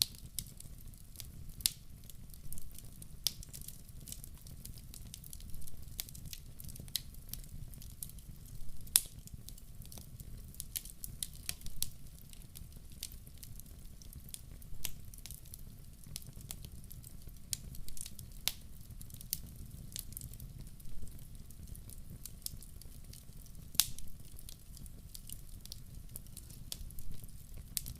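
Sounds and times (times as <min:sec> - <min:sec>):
fire crackling and popping: 0:00.0 - 0:27.9.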